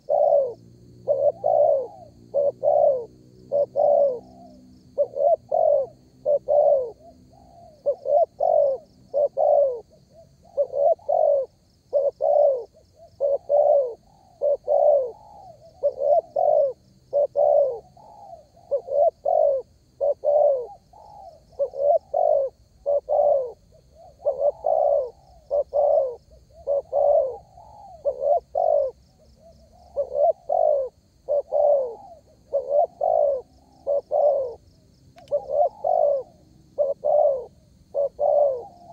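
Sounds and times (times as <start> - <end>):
dove cooing: 0.0 - 38.9
faint high chirping: 0.0 - 38.9.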